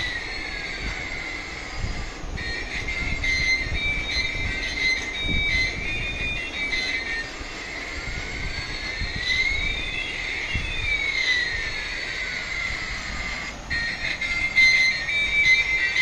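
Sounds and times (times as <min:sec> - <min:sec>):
electronic toy tones: 0:00.0 - 0:16.0.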